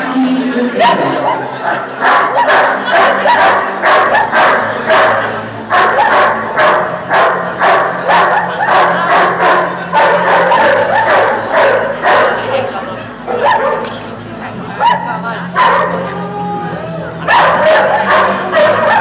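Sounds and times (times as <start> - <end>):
dog barking: 0.8 - 12.7, 13.3 - 14.0, 14.8 - 16.1, 17.3 - 19.0.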